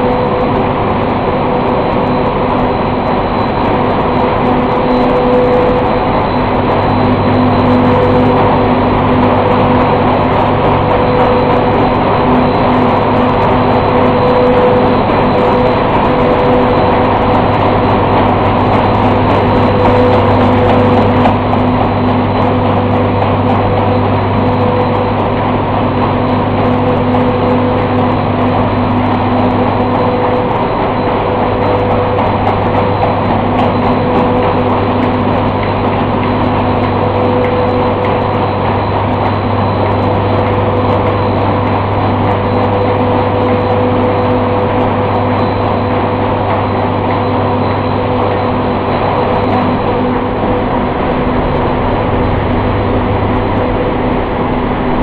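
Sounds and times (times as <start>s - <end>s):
constant hum: 0.0s - 55.0s
machine drone: 0.0s - 55.0s.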